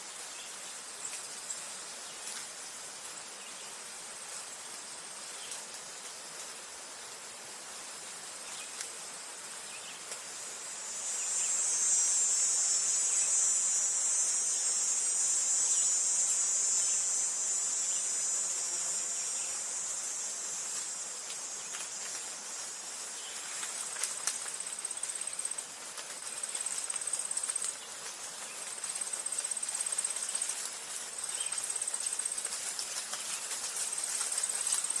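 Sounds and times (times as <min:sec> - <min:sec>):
insect trills: 0:00.0 - 0:35.0
insects chirring: 0:00.0 - 0:35.0.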